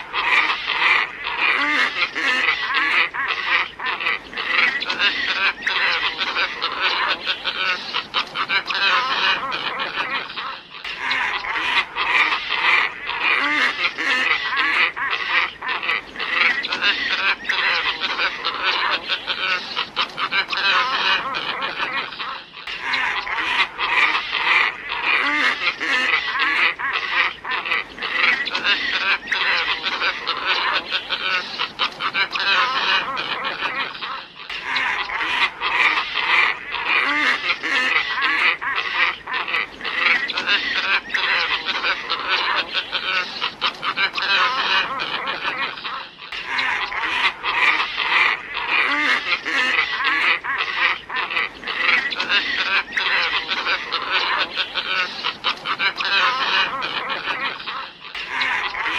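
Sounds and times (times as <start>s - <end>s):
flock of birds calling: 0.0s - 58.9s.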